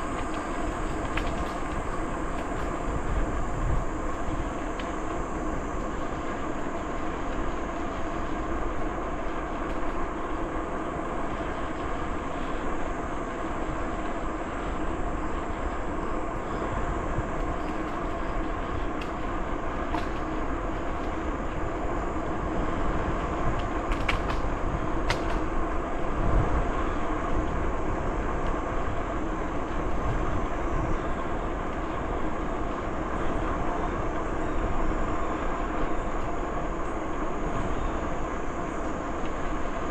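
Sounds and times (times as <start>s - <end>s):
bicycle rolling along a trail: 0.0s - 39.9s.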